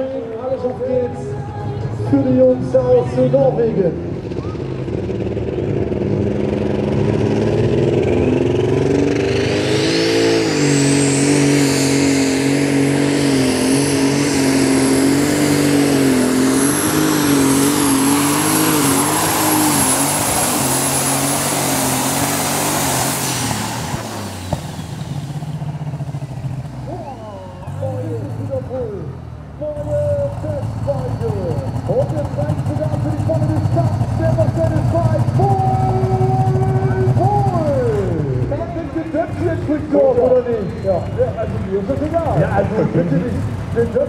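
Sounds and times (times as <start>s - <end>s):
tractor engine running flat out: 0.0s - 44.0s.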